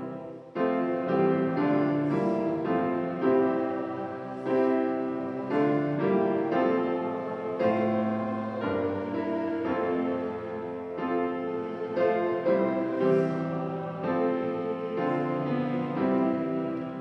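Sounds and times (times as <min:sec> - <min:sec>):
piano playing hymn chords: 0:00.0 - 0:17.0.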